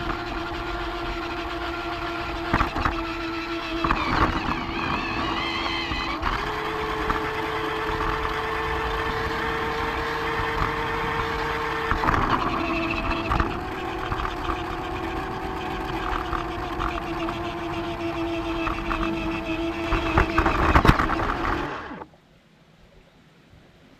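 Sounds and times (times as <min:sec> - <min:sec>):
small electric motor humming: 0:00.0 - 0:22.0
wheels clicking over track: 0:00.0 - 0:22.0.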